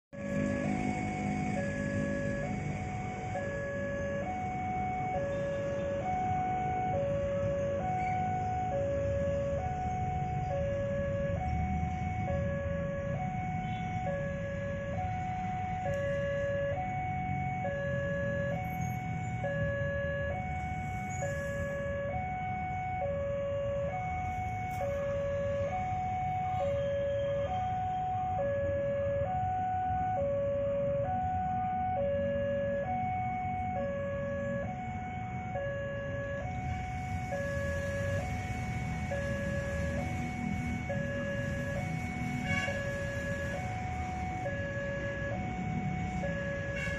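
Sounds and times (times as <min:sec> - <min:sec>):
road traffic: 0:00.1 - 0:46.9
two-tone crossing alarm: 0:00.1 - 0:46.9.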